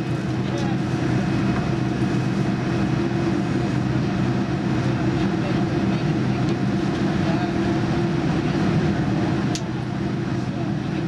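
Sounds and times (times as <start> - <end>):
jet engines idling hum: 0.0 - 11.0.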